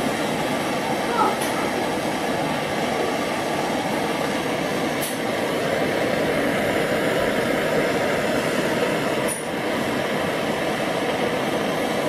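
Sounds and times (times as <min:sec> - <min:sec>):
gas torch burning: 0:00.0 - 0:12.0.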